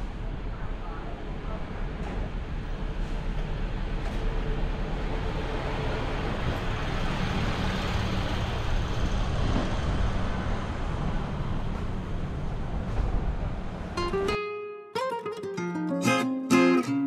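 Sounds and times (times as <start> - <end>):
idling and slow-moving traffic: 0.0 - 14.0.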